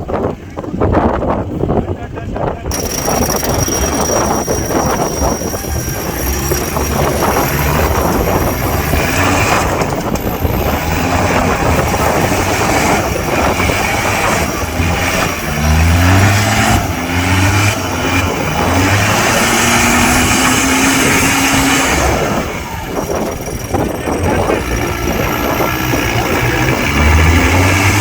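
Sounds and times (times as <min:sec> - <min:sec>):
vehicle engine revving: 0:02.7 - 0:28.0.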